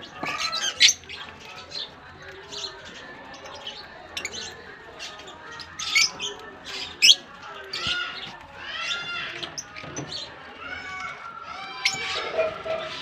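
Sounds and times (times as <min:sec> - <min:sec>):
budgerigars chirping and squawking: 0:00.0 - 0:13.0.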